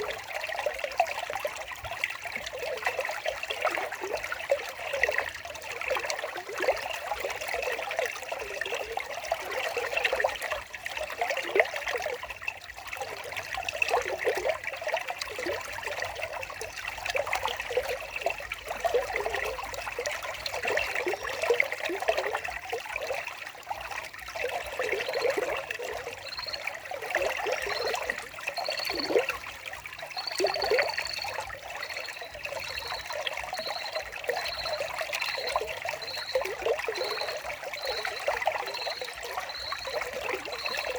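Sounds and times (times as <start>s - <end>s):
water trickling and bubbling: 0.0s - 40.9s.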